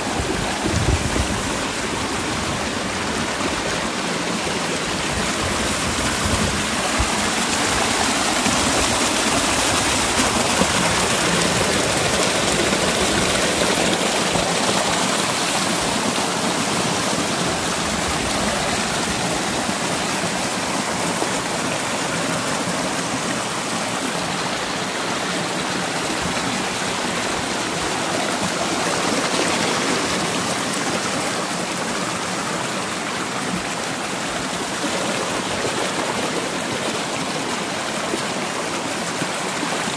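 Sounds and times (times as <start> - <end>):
creek water rushing and splashing: 0.0 - 39.9.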